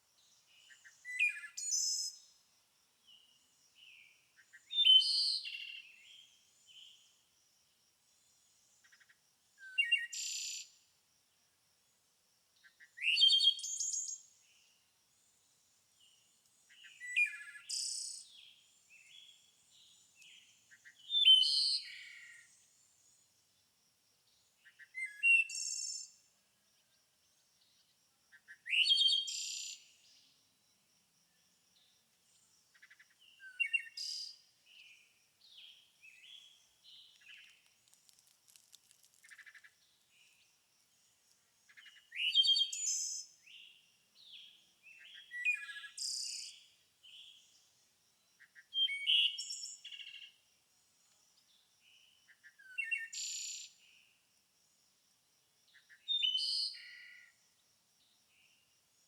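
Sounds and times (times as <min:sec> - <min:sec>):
songbirds singing: 0:00.1 - 0:07.3, 0:08.1 - 0:10.8, 0:12.6 - 0:23.3, 0:24.3 - 0:30.4, 0:31.2 - 0:50.4, 0:51.1 - 0:54.2, 0:55.7 - 0:57.4.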